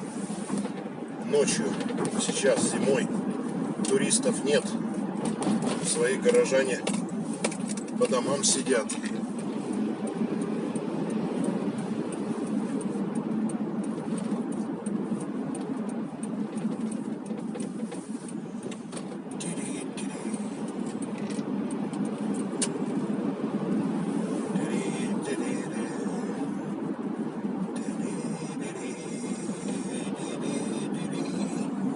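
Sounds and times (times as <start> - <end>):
car engine and tyre rumble: 0.0 - 31.9.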